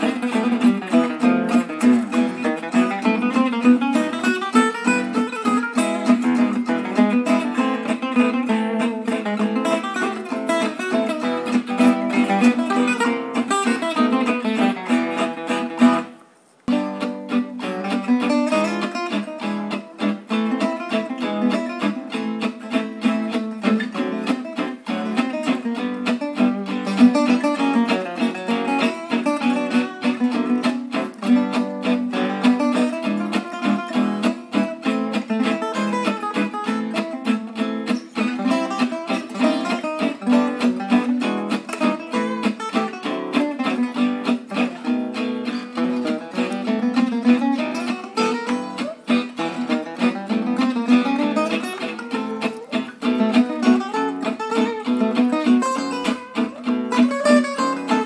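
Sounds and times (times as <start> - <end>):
plucked guitar music: 0.0 - 58.0.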